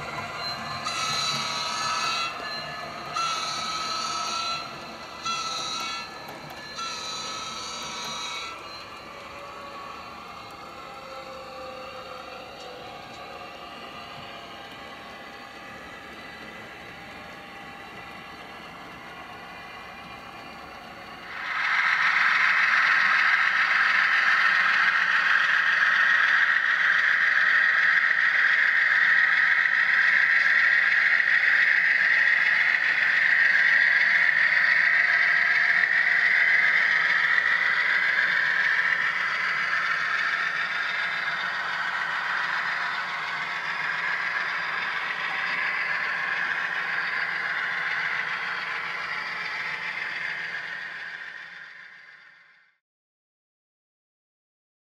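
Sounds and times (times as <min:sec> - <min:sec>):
model train wheels rattling on rails: 0:00.0 - 0:52.6.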